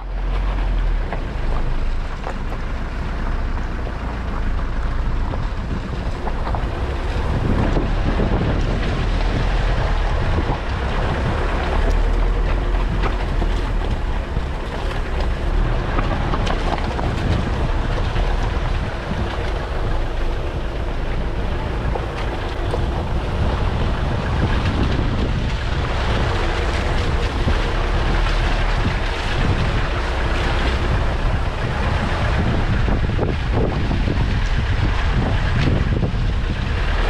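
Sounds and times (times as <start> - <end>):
vehicle engine and tyres: 0.0 - 37.0
wind rumble on microphone: 0.0 - 37.0.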